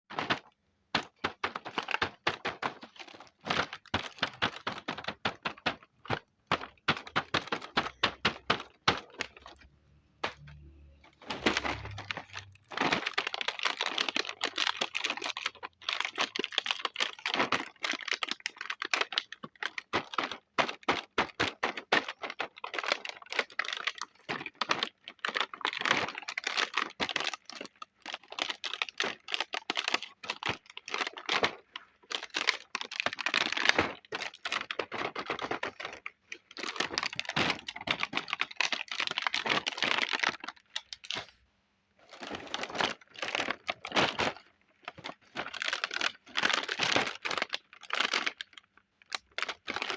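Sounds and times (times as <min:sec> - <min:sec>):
plastic pieces clicking and tapping: 0:00.1 - 0:41.4, 0:42.1 - 0:49.9.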